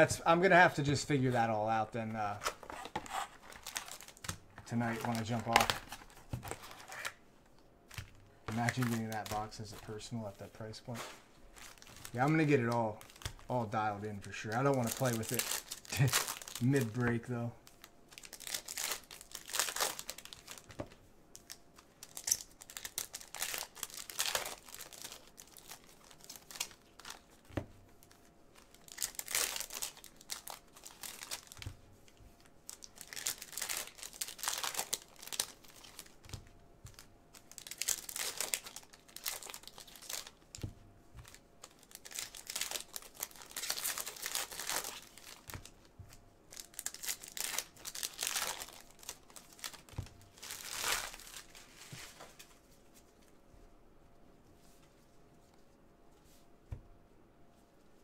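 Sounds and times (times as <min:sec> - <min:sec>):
foil wrappers crinkling and tearing: 0:00.4 - 0:07.2, 0:07.9 - 0:20.8, 0:21.4 - 0:45.9, 0:46.5 - 0:52.5.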